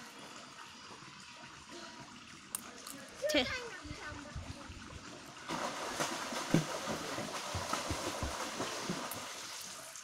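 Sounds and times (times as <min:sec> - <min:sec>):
water splashing: 0:01.8 - 0:10.0.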